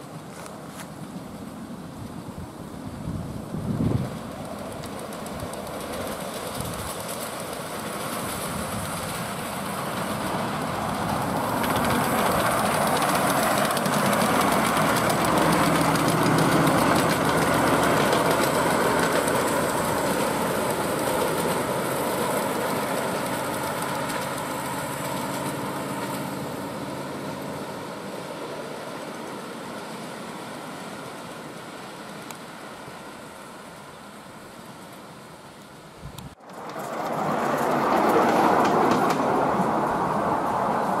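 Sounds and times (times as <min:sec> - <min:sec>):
model steam locomotive passing: 0:00.0 - 0:41.0.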